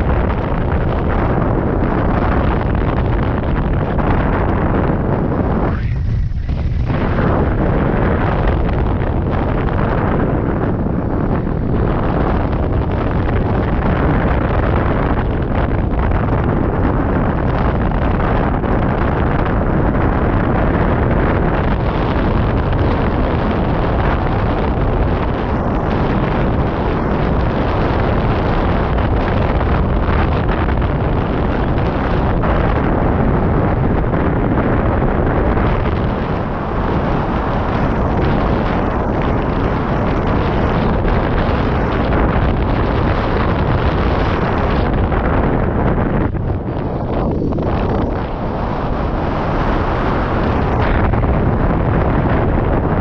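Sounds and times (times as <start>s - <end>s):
wind rushing across microphone: 0.0s - 53.0s.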